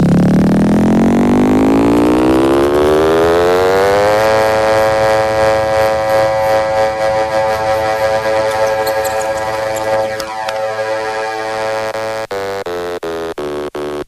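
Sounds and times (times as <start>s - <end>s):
electronic synth tone rising in pitch: 0.6s - 14.0s.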